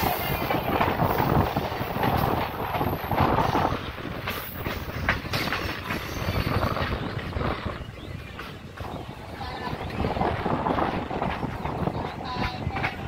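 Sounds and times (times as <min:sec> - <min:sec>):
train coach rumbling: 0:00.0 - 0:13.0
wheels clattering over rails: 0:00.0 - 0:13.0.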